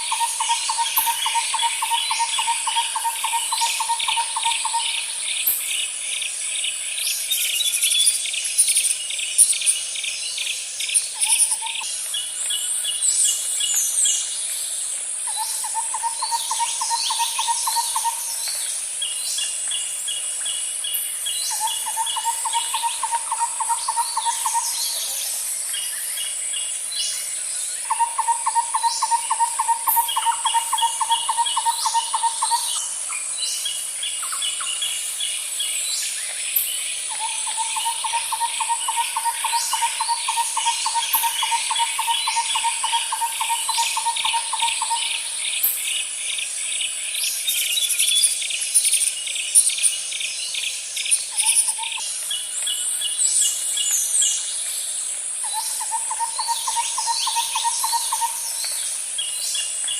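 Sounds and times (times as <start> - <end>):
birds calling and singing: 0.0 - 59.9
high insect drone: 0.0 - 59.9.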